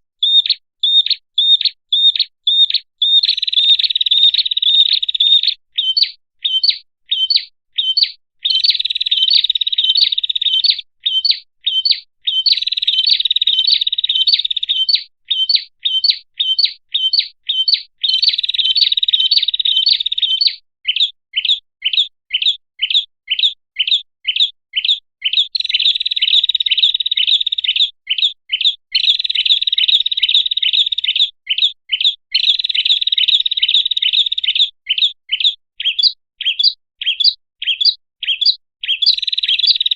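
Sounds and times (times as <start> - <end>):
bird singing sharp chirps and trills: 0.2 - 39.9.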